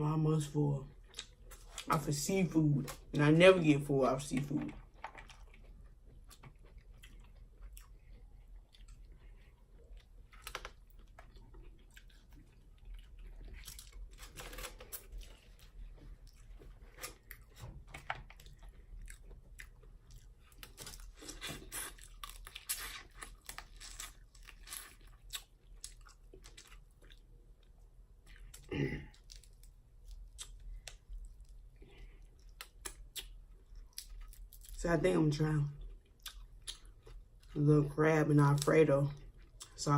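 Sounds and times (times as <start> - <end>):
chewing with crunches: 1.0 - 2.0, 4.3 - 34.8, 35.6 - 39.9.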